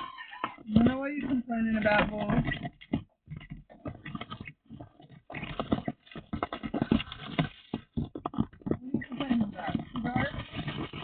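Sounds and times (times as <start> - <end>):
chickens scratching and tapping: 0.0 - 11.0.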